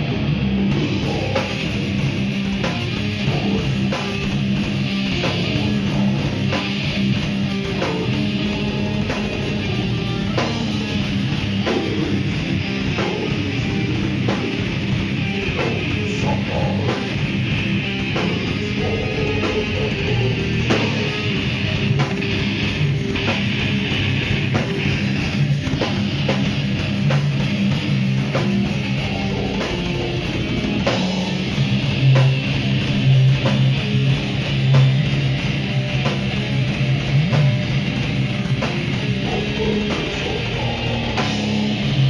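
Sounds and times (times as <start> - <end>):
heavy metal band playing: 0.0 - 42.0.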